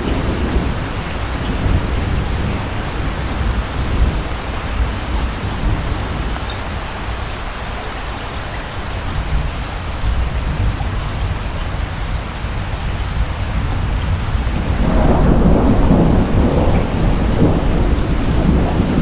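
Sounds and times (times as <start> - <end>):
distant thunder rumble: 0.0 - 19.0
steady rain falling: 0.0 - 19.0.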